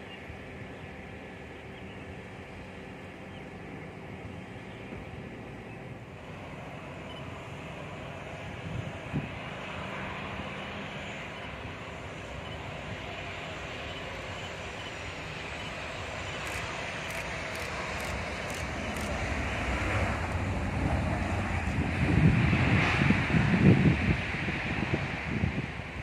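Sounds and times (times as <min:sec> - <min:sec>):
jet engines rushing and whining: 0:00.0 - 0:26.0.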